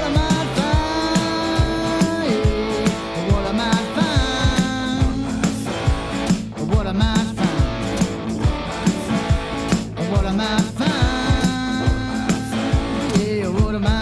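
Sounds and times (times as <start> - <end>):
rock song with guitar: 0.0 - 14.0.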